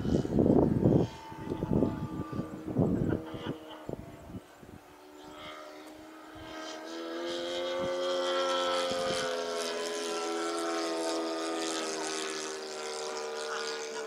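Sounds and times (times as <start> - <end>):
model plane engine running: 0.0 - 14.0.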